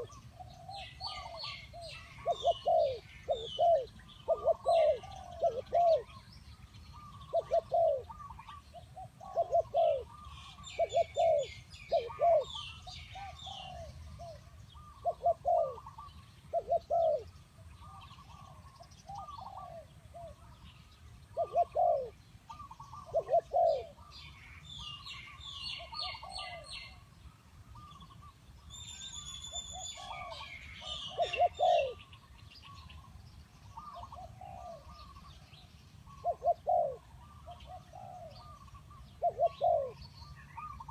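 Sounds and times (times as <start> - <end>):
doves cooing: 0.0 - 6.3, 6.9 - 27.1, 29.7 - 40.9
small birds chirping: 0.0 - 40.9.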